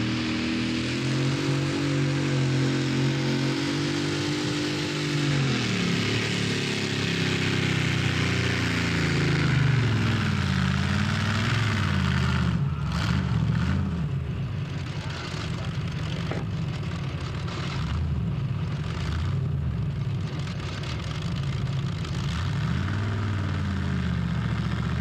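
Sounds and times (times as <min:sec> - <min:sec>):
tractor engine running hard: 0:00.0 - 0:25.0.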